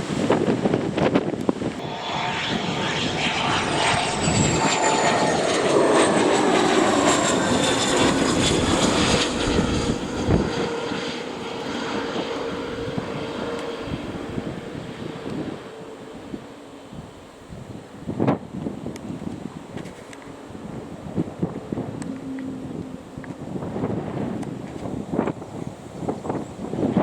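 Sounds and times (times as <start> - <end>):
jet airliner engine roar: 0.0 - 27.0.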